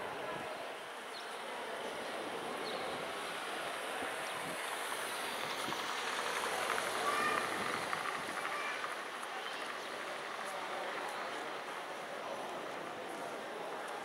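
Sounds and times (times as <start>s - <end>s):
murmur of distant voices: 0.0s - 14.0s.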